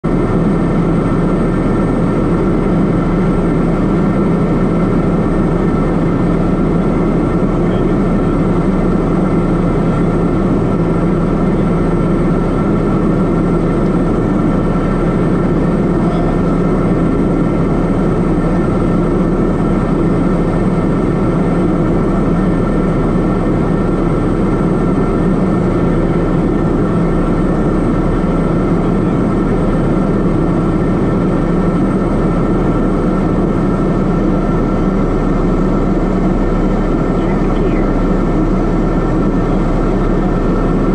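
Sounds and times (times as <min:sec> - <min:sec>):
aircraft cabin drone: 0:00.0 - 0:40.9.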